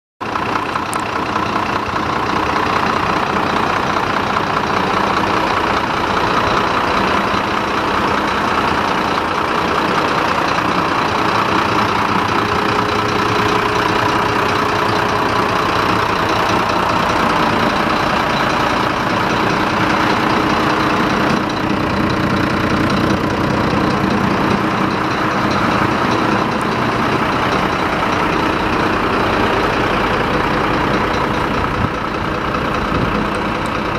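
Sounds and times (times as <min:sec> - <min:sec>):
diesel truck engine idling: 0:00.2 - 0:33.9.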